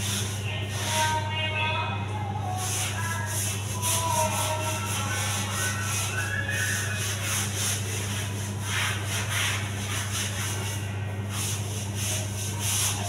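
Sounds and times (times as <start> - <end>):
steady low hum: 0.0 - 13.0
scrubbing on ceramic tile floor: 2.5 - 13.0.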